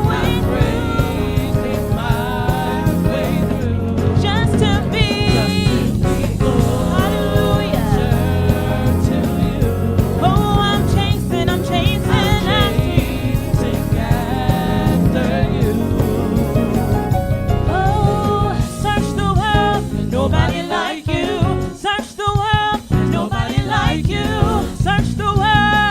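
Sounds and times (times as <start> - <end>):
gospel singing with full band: 0.0 - 25.9.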